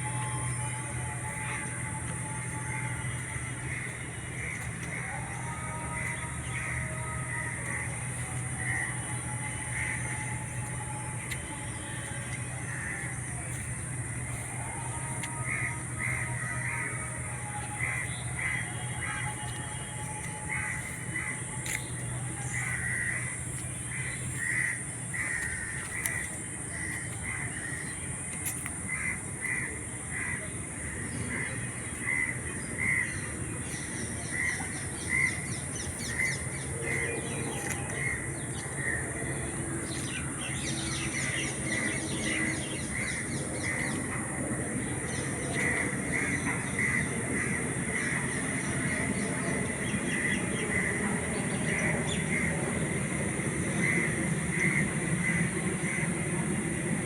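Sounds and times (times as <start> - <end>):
birds calling: 0.0 - 57.0.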